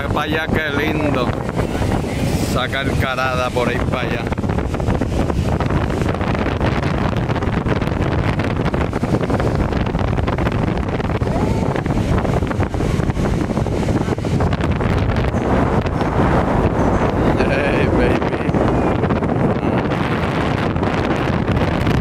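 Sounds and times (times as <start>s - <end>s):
waterfall roaring: 0.0s - 22.0s
wind buffeting microphone: 0.0s - 22.0s.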